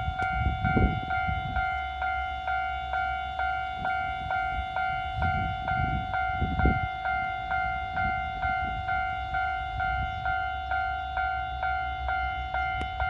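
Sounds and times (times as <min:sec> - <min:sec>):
level-crossing alarm bell clanging: 0:00.0 - 0:13.0.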